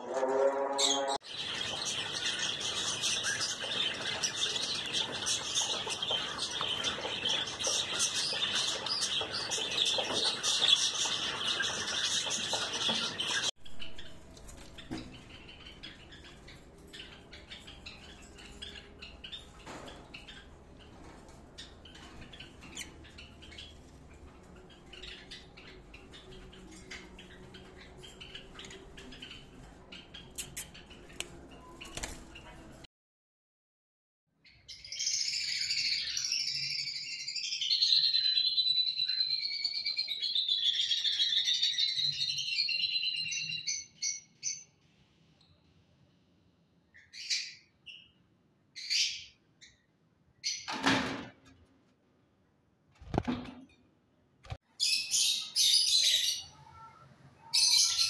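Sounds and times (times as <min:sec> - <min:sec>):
caged birds chirping and squawking: 0:00.0 - 0:32.9, 0:34.4 - 0:45.6, 0:46.7 - 0:51.9, 0:54.5 - 0:58.0.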